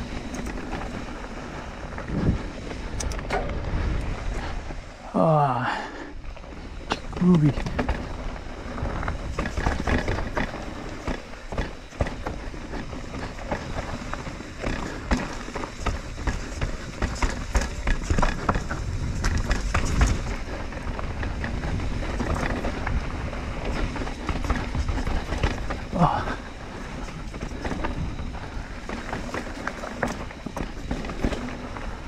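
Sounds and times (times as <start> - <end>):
bike rattling: 0.0 - 32.0
bike tyres rolling over ground: 0.0 - 32.0
wind rumble on microphone: 0.0 - 32.0.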